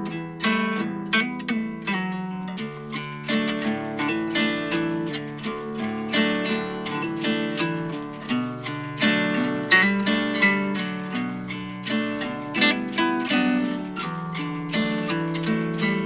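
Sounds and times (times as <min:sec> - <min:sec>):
plucked acoustic guitar music: 0:00.0 - 0:16.0.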